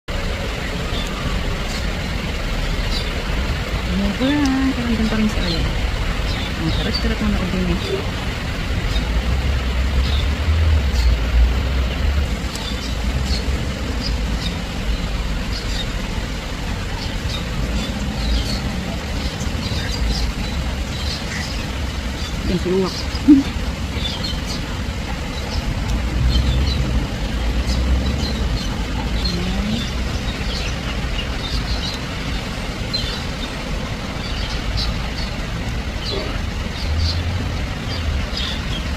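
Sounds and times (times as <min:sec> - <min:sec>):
steady low rumble: 0:00.1 - 0:38.9.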